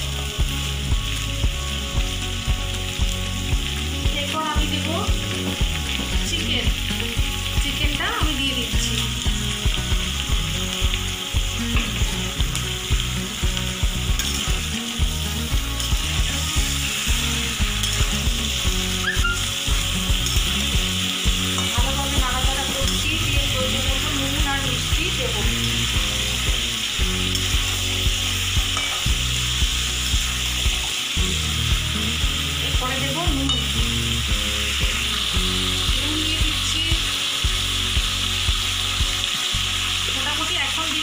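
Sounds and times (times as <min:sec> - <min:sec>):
food sizzling: 0:00.0 - 0:41.0.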